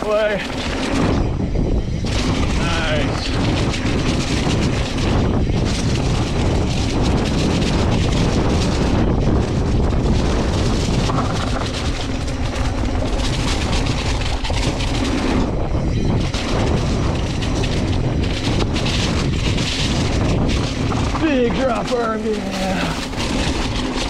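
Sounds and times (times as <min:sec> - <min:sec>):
bike clicks and rattles: 0:00.0 - 0:24.0
tyres rumbling on dirt: 0:00.0 - 0:24.0
wind rush over microphone: 0:00.0 - 0:24.0.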